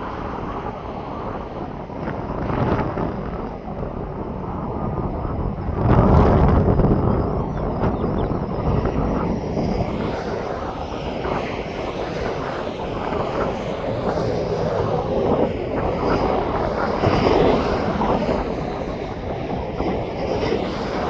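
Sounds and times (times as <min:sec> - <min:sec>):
airplane engine noise: 0:00.0 - 0:21.0.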